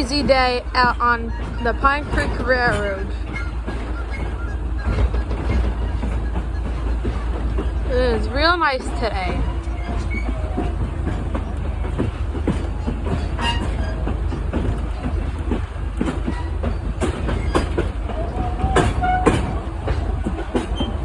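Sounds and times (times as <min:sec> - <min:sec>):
train rumbling: 0:00.0 - 0:21.0
train wheel squeal: 0:00.0 - 0:21.0
wheels clicking over rail joints: 0:00.0 - 0:21.0.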